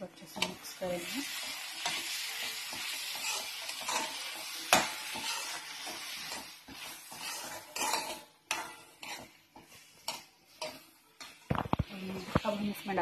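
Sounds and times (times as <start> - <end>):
vegetables sizzling in oil: 0.0 - 13.0
utensil scraping pan: 1.2 - 13.0.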